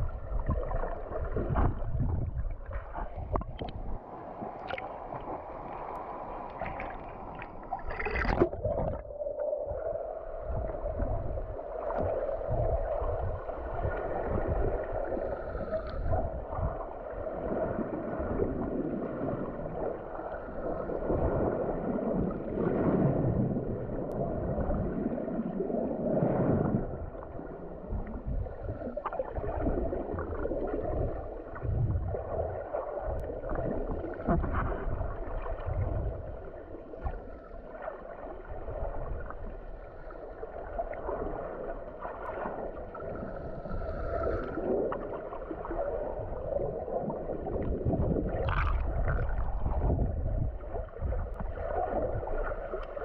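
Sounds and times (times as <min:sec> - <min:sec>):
underwater sloshing and gurgling: 0:00.0 - 0:53.0.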